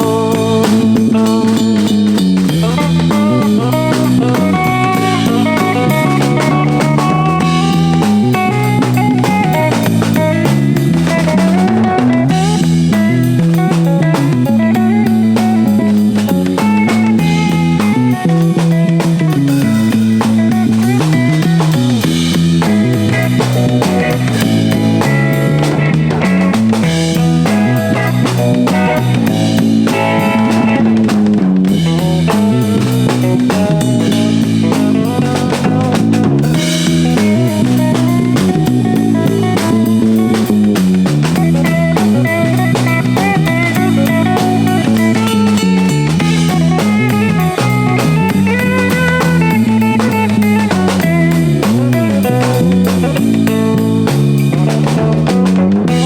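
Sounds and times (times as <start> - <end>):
bass line: 0.0 - 56.0
drum kit beat: 0.0 - 56.0
electric guitar: 0.0 - 56.0.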